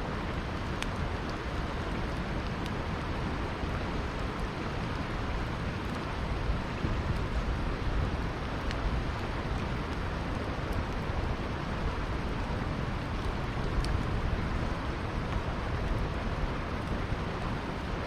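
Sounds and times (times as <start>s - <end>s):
river flowing: 0.0s - 18.0s
campfire crackling: 0.1s - 18.0s.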